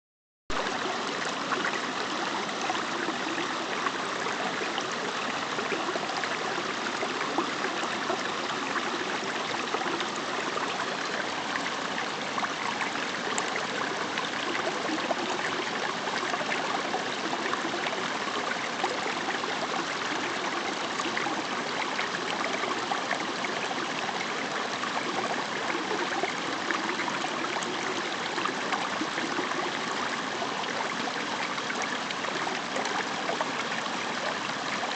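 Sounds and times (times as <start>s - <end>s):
forest stream babbling: 0.6s - 34.9s.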